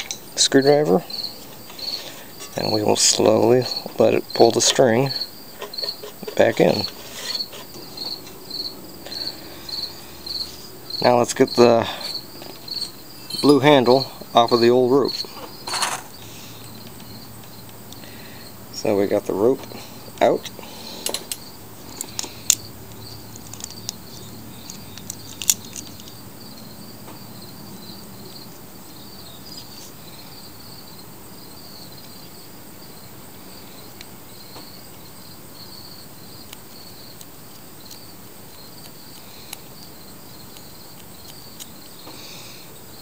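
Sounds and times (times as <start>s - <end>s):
insects chirping trill: 0.0s - 43.0s.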